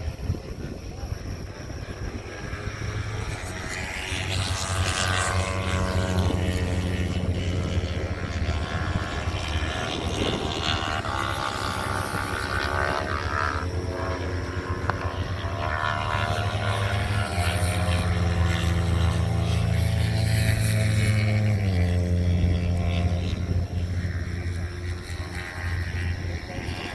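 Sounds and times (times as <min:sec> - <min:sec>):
racing motorcycle engines passing: 0:00.0 - 0:26.9
steady low drone: 0:00.0 - 0:26.9.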